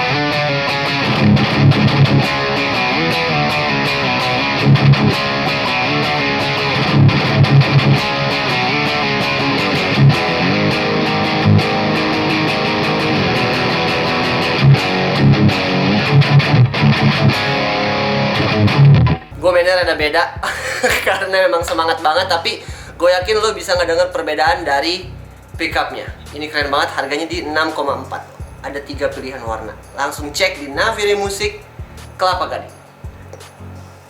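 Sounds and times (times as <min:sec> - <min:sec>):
electric guitar riffing: 0:00.0 - 0:34.0.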